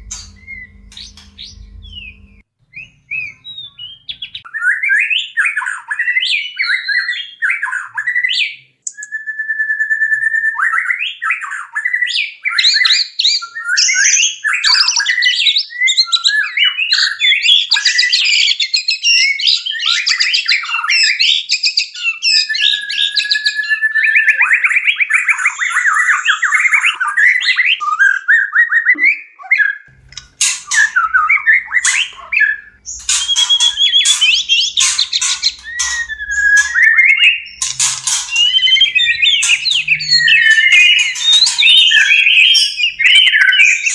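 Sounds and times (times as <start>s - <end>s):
songbirds singing whistles and trills: 0.0s - 43.9s.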